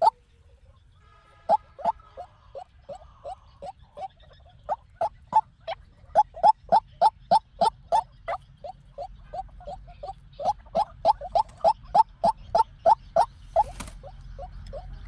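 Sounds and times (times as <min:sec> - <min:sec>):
waterhen calling: 0:00.0 - 0:00.2, 0:01.3 - 0:15.0.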